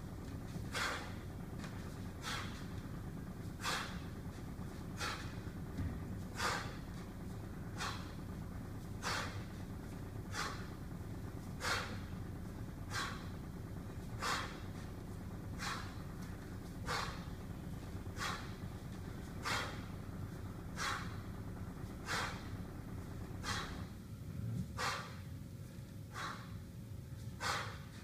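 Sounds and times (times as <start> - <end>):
man breathing forcefully: 0.0 - 24.1, 24.7 - 28.0
steady low hum: 0.0 - 28.0.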